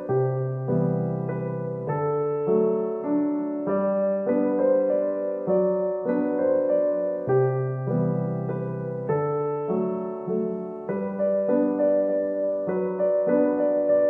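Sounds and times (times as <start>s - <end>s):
slow keyboard tune: 0.0s - 14.0s.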